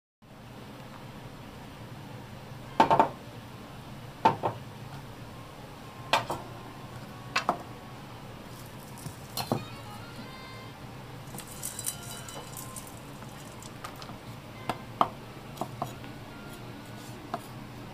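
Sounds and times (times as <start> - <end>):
low steady hum: 0.3 - 17.9.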